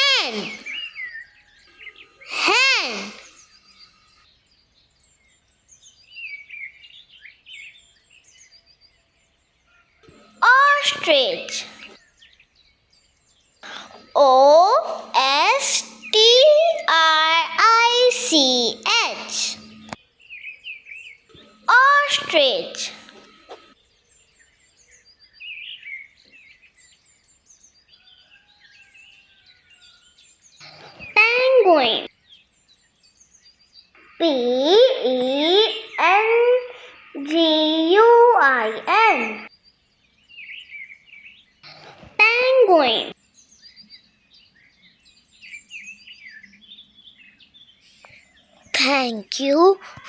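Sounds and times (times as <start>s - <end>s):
faint background birdsong: 0.0s - 50.0s
small birds chirping: 0.0s - 50.0s.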